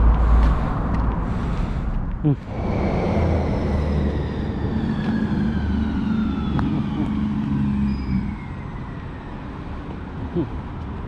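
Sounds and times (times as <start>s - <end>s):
vehicle engine passing: 0.0s - 10.5s.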